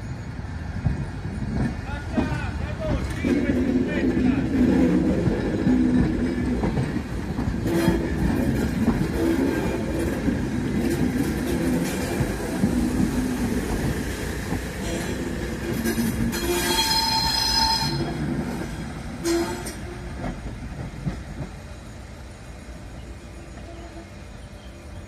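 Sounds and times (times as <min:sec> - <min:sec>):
train wheels squealing: 0:00.0 - 0:03.3, 0:05.1 - 0:20.5, 0:21.5 - 0:25.0
train wheels rumbling and clattering: 0:00.0 - 0:25.0.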